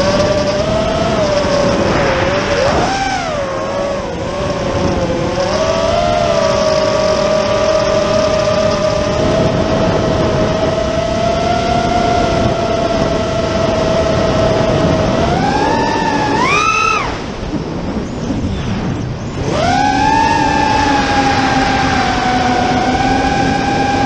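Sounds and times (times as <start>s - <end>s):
drone motors whining: 0.0s - 24.0s
wind rushing: 0.0s - 24.0s.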